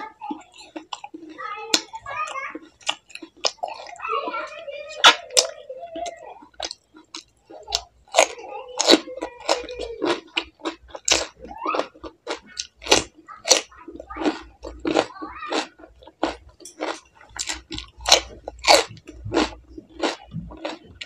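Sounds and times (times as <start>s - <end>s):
person chewing crisp fruit: 0.0s - 21.0s.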